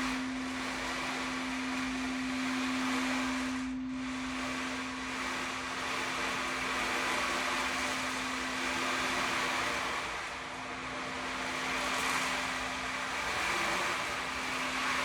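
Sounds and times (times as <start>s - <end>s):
steady pure tone drone: 0.0s - 15.0s.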